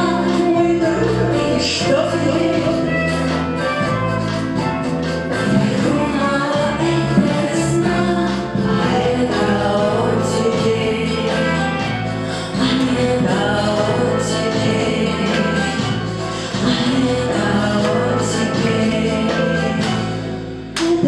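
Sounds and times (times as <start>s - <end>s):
woman singing into microphone: 0.0s - 4.0s, 5.3s - 20.2s, 20.8s - 21.0s
instrumental accompaniment: 0.0s - 21.0s.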